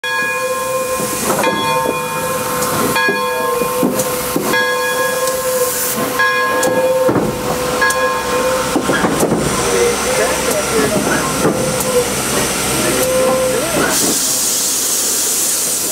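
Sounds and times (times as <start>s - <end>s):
steam hissing: 0.7s - 15.9s.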